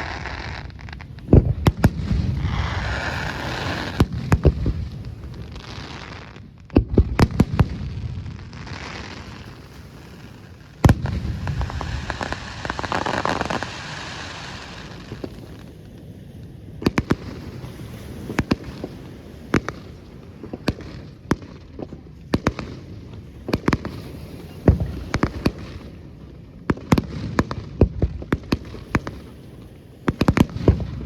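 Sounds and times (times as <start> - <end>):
firework bangs: 0.0 - 15.8, 16.8 - 31.0
firework crackling: 0.0 - 31.0.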